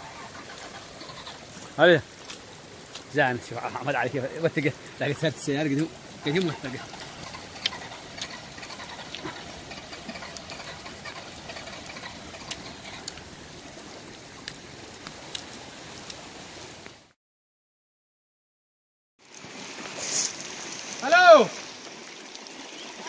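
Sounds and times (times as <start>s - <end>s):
flood water rushing: 0.0s - 17.2s, 19.2s - 23.0s.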